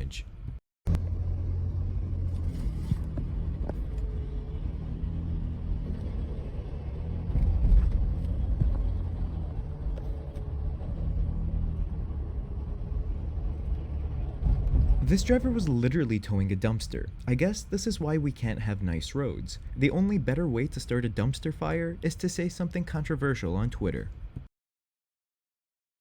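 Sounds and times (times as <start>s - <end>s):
car road and engine rumble: 0.0s - 24.5s.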